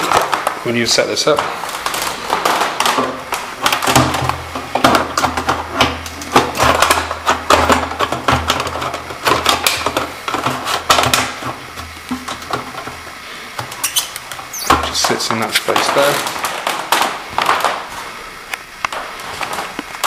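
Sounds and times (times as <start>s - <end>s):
plastic filter parts clicking: 1.3s - 17.9s.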